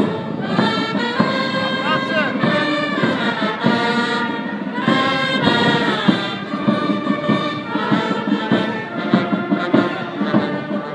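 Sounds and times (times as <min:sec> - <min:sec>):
brass band playing: 0:00.0 - 0:10.9.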